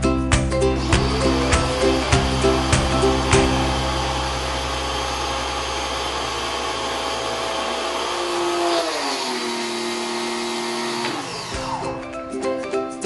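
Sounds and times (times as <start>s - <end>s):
pressure washer motor running: 0.8s - 12.0s.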